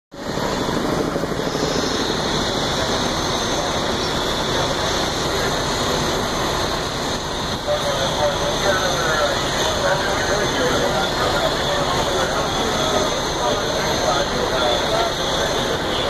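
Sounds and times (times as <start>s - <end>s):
steady engine drone: 0.1s - 16.0s.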